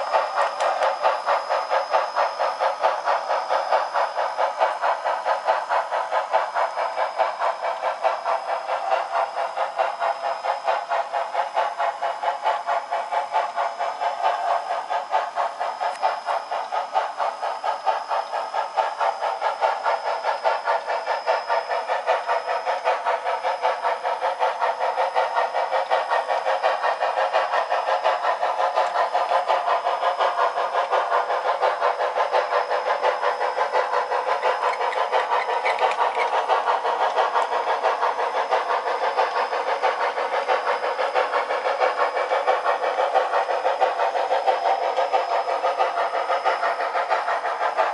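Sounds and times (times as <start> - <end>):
steam exhaust chuffs through small speaker: 0.0 - 47.9.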